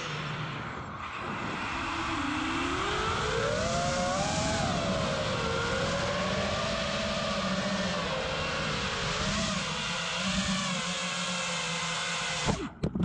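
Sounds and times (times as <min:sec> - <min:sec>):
wind noise: 0:00.0 - 0:10.6
quadcopter motors whining: 0:00.0 - 0:12.9.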